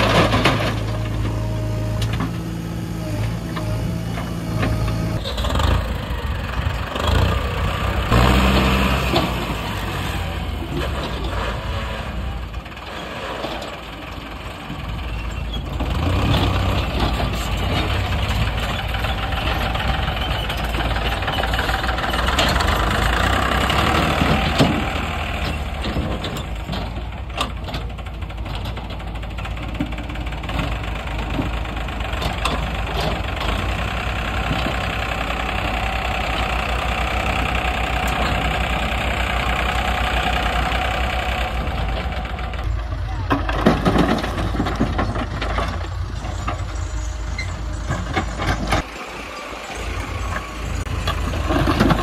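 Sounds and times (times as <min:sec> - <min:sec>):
tractor diesel engine clatter: 0:00.0 - 0:52.0.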